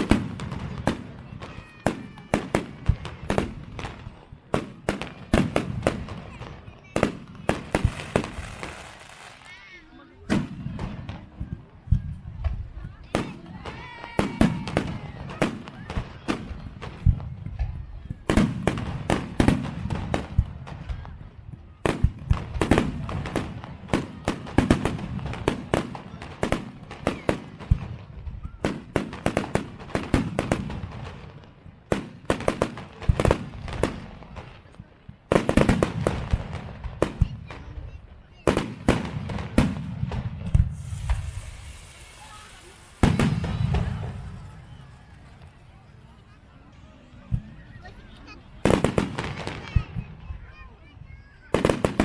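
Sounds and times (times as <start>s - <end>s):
fireworks bursting: 0.0s - 45.6s, 47.2s - 52.0s.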